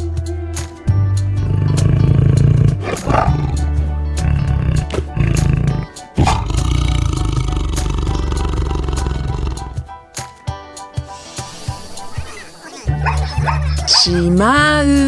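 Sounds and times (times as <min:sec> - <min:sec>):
background music with steady beat: 0:00.0 - 0:15.0
tiger roaring: 0:01.3 - 0:09.9, 0:11.4 - 0:15.0.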